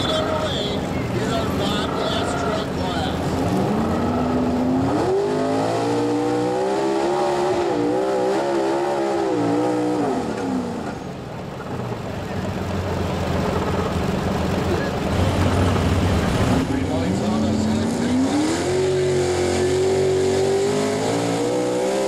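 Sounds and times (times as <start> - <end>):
tires spinning in dirt: 0.0 - 22.0
truck engine revving: 0.0 - 22.0.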